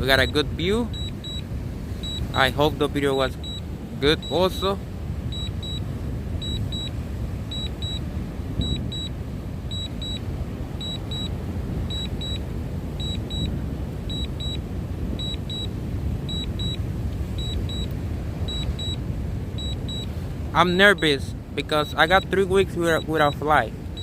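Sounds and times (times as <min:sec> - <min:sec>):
wind rumble on microphone: 0:00.0 - 0:24.0
remote controller double beeps: 0:00.2 - 0:12.4, 0:13.0 - 0:16.8, 0:17.4 - 0:19.0, 0:19.6 - 0:20.1, 0:21.9 - 0:24.0.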